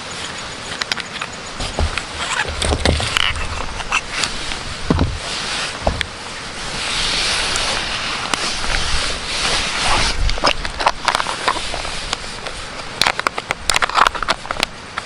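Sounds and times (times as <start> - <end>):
rushing hiss: 0.0 - 15.0.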